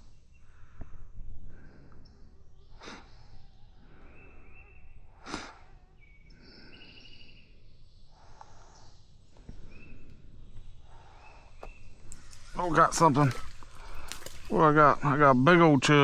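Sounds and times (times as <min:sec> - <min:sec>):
birds singing: 0:00.0 - 0:16.0
outdoor background noise: 0:00.0 - 0:16.0.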